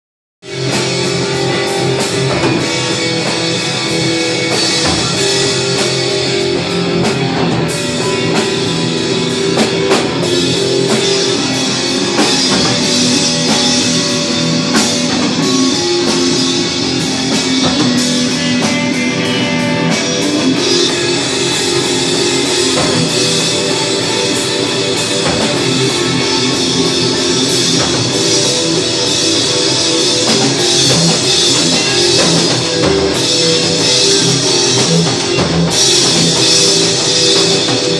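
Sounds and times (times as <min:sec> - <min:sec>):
bass guitar: 0:00.4 - 0:37.9
drum kit: 0:00.4 - 0:37.9
electric guitars: 0:00.4 - 0:37.9.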